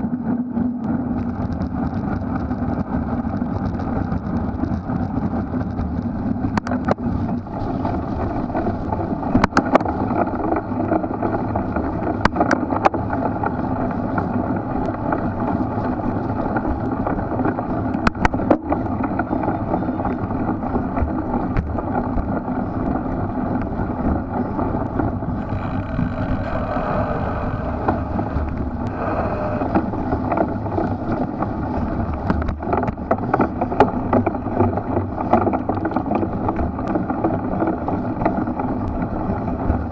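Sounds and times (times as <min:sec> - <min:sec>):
bike rattling over bumps: 0:00.0 - 0:39.9
bike tyre rumble: 0:00.0 - 0:39.9
wind on microphone: 0:00.0 - 0:39.9.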